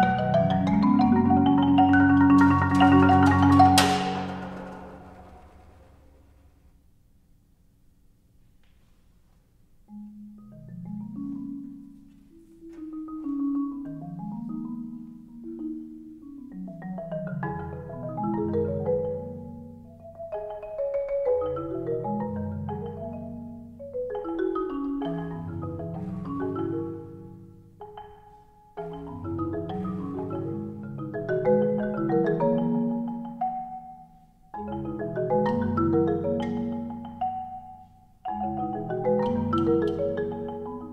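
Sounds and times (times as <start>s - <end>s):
marimba trio playing: 0.0s - 5.7s, 9.9s - 40.9s.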